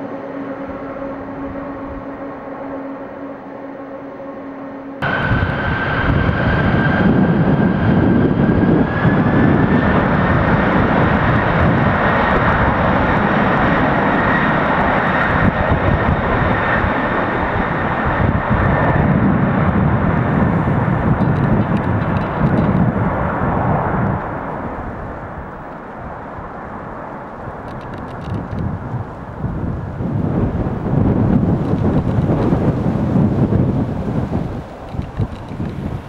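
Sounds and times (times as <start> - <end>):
jet engines roaring: 0.0 - 36.0
jet fan whine: 0.0 - 36.0.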